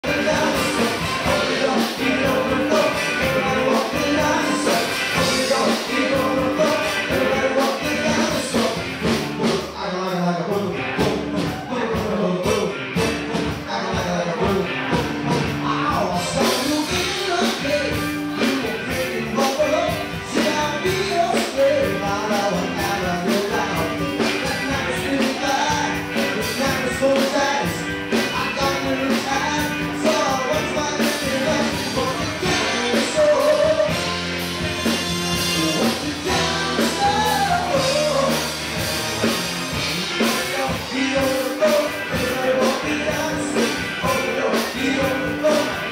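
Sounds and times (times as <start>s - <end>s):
upbeat song with singer: 0.0s - 45.9s.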